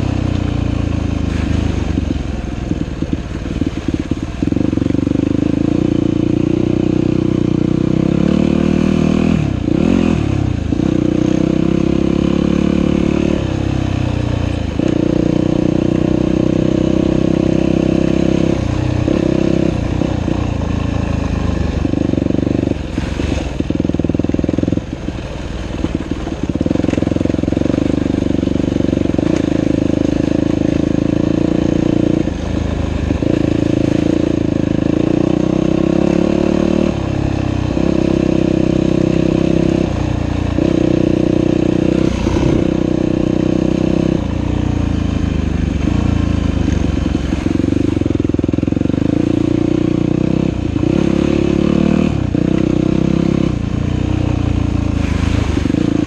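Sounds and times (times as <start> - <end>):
dirt bike engine revving: 3.1 - 25.0, 25.8 - 56.0.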